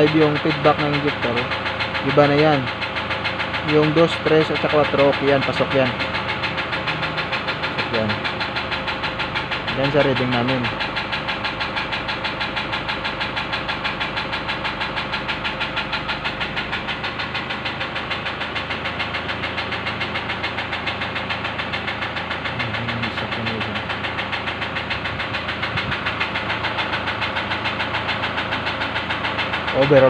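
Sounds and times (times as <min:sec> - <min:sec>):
diesel engine idling with knock: 0:00.0 - 0:30.0.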